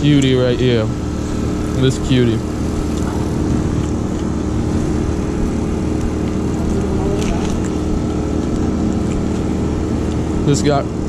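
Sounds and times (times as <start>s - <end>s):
portable generator engine running: 0.0s - 11.0s.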